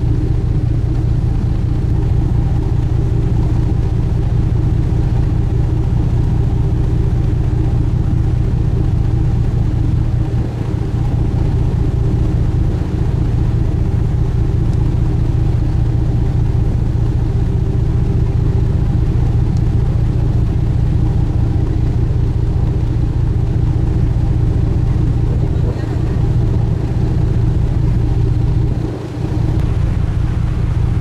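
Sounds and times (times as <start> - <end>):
boat engines droning: 0.0 - 31.0.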